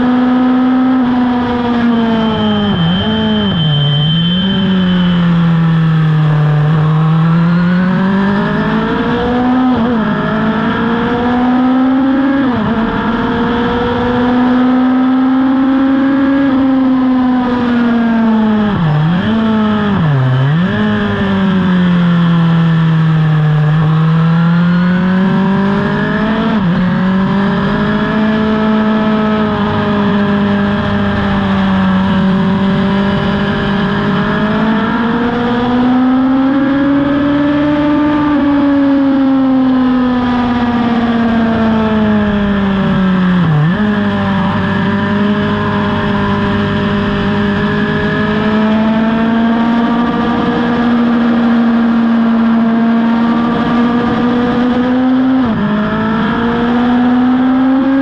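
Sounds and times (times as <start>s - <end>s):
racing motorcycle engine revving: 0.0s - 58.0s.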